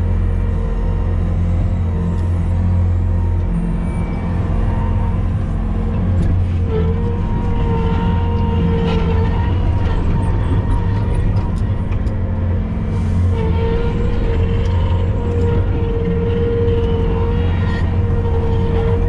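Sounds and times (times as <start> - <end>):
heavy equipment engine droning: 0.0 - 19.0
wavering whining tone: 0.0 - 19.0.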